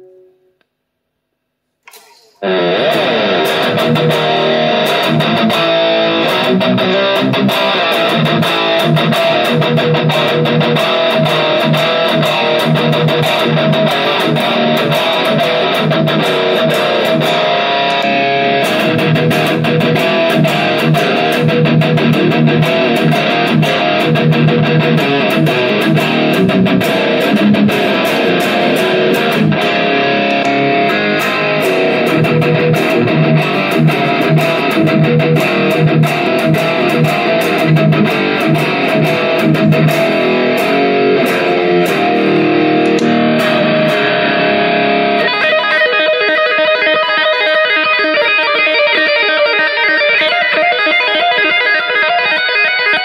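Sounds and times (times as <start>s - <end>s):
electric guitar picking and strumming: 0.0s - 0.6s, 1.8s - 53.0s.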